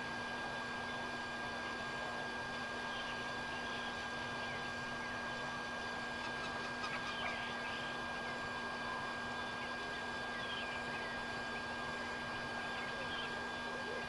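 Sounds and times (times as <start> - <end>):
faint low hum: 0.0 - 14.0
thin high whine: 0.0 - 14.0.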